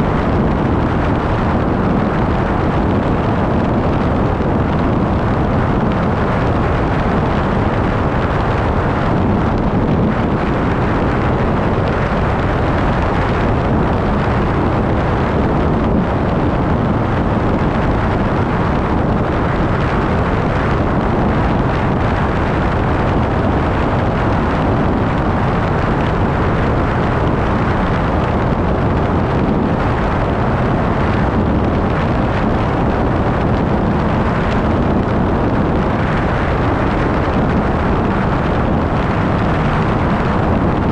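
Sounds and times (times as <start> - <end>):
vehicle road and wind noise: 0.0 - 40.9.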